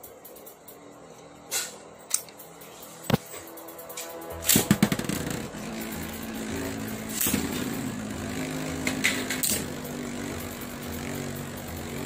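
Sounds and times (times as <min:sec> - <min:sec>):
tops clicking against each other: 0:00.0 - 0:01.4, 0:02.0 - 0:12.0
spinning tops whirring on plastic: 0:01.6 - 0:12.0.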